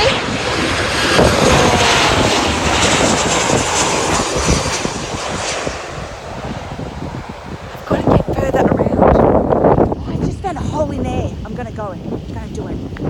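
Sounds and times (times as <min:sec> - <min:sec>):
falling engine whine: 0:00.0 - 0:10.5
jet airliner passing close: 0:00.0 - 0:13.0.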